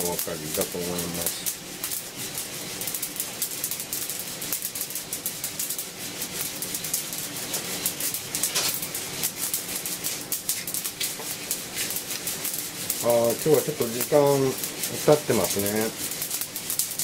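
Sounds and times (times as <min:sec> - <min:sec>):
coffee beans rattling in roaster: 0:00.0 - 0:17.0
beans cracking with fine clicks: 0:01.3 - 0:17.0.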